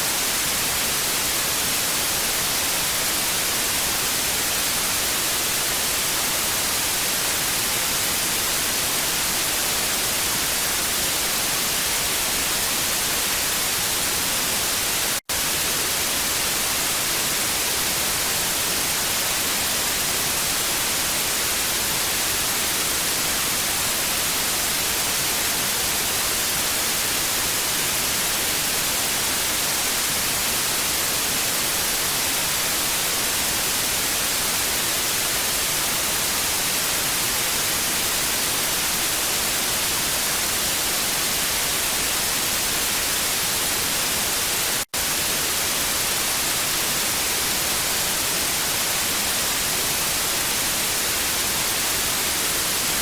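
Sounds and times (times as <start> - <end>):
television static hiss: 0.0 - 53.0.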